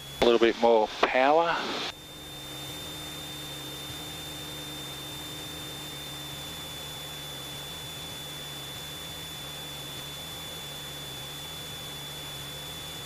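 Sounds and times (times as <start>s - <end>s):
faint aircraft engine drone: 0.0s - 13.0s.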